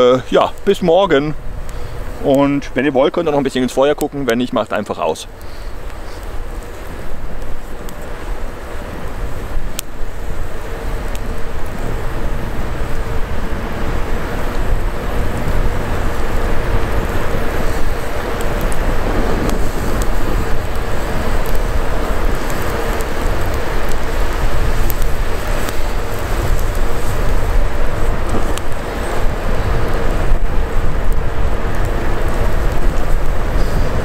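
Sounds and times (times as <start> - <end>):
campfire crackles: 0.0 - 34.0
low rumbling fire noise: 0.0 - 34.0.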